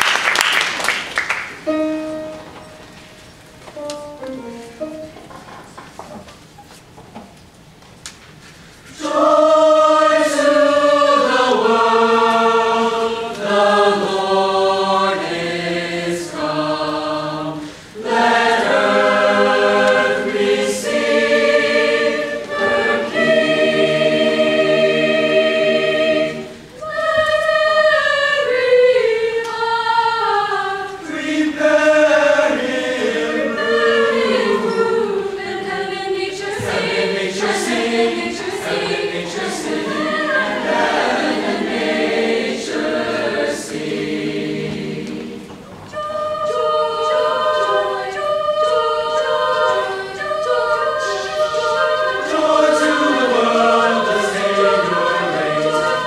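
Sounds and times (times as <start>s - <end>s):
choir singing chords: 1.6s - 5.2s, 8.9s - 56.0s.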